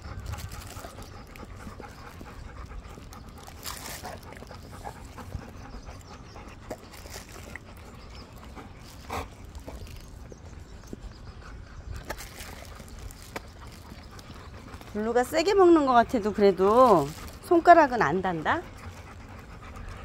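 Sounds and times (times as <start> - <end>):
dogs panting: 0.0 - 20.0.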